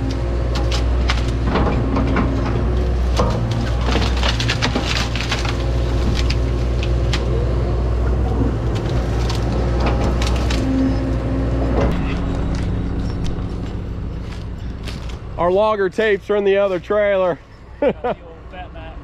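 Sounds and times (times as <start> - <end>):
branches cracking and snapping: 0.0 - 15.5
excavator diesel engine running: 0.0 - 19.0.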